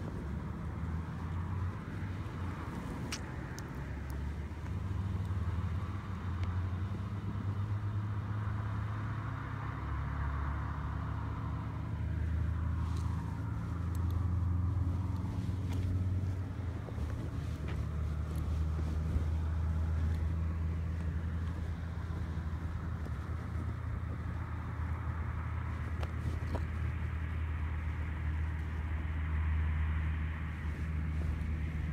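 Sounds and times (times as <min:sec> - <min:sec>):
steady low traffic rumble: 0:00.0 - 0:31.9
vehicles passing by: 0:00.0 - 0:31.9.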